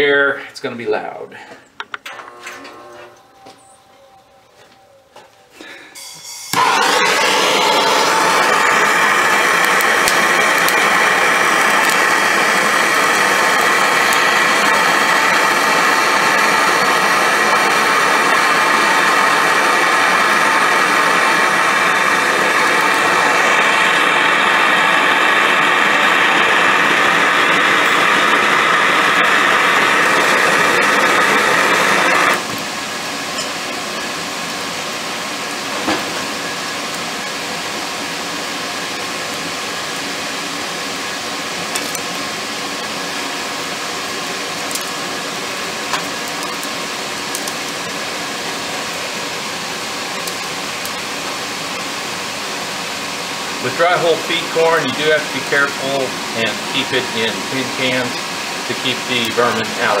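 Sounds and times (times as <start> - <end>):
forge air blower running: 2.0 - 60.0
gas torch hissing: 5.7 - 60.0.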